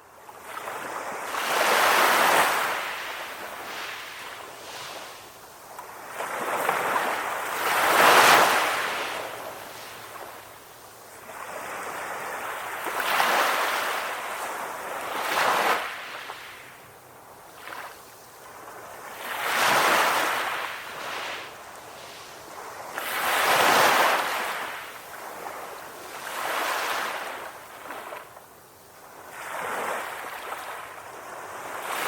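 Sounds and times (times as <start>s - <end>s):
ocean waves: 0.4s - 28.4s, 29.0s - 32.0s.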